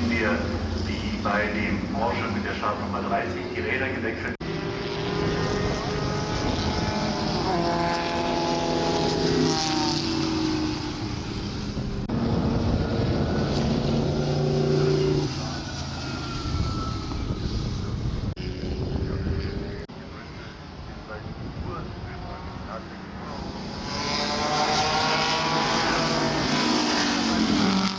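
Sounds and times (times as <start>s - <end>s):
racing car engines high revs: 0.0s - 27.9s.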